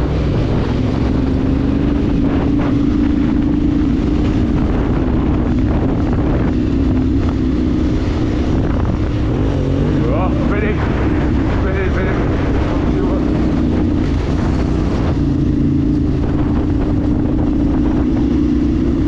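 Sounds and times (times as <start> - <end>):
vehicle engine running: 0.0 - 19.0
wind noise on microphone: 0.0 - 19.0.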